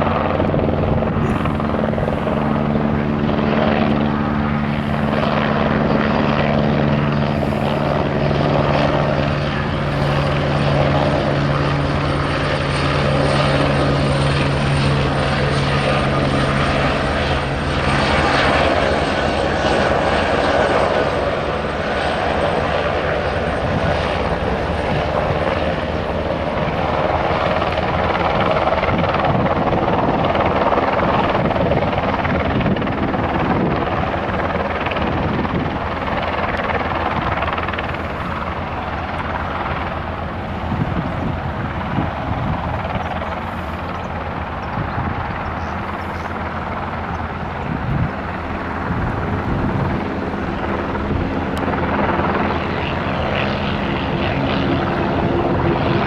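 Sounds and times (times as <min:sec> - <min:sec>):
helicopter running: 0:00.0 - 0:56.0.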